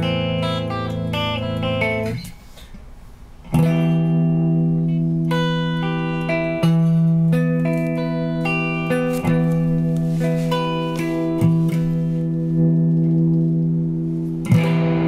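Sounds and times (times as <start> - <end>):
electric guitar notes: 0.0 - 2.8, 3.4 - 15.0.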